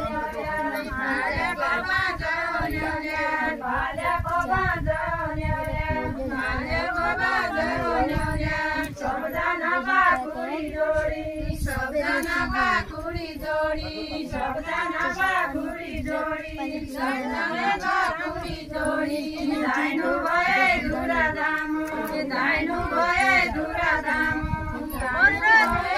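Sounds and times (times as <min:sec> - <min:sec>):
women singing unaccompanied: 0:00.0 - 0:25.9.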